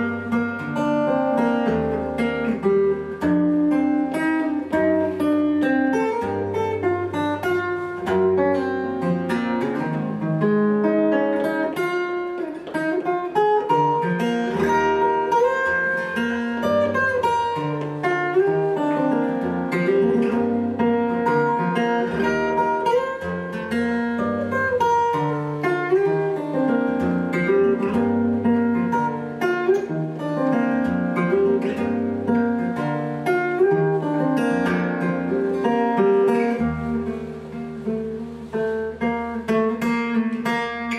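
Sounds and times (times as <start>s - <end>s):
fingerstyle acoustic guitar: 0.0s - 40.9s.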